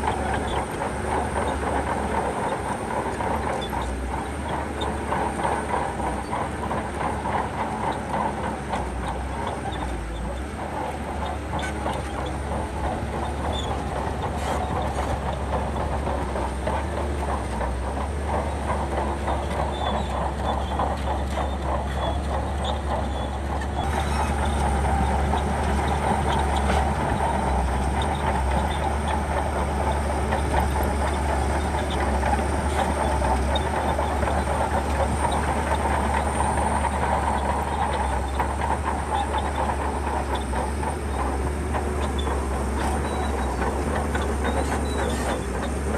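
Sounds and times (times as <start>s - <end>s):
steel tracks clattering: 0.0s - 9.1s, 9.9s - 45.9s
diesel engine running: 0.0s - 45.9s.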